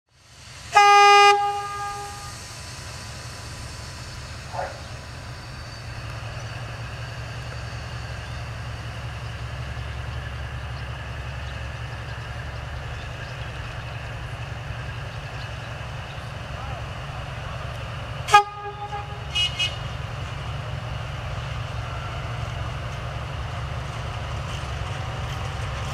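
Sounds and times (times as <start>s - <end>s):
locomotive engine rumble: 0.2s - 25.9s.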